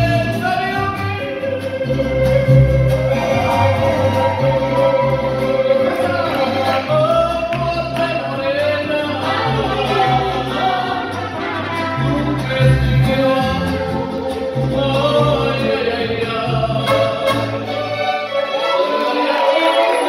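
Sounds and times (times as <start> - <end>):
mariachi band playing: 0.0 - 20.0.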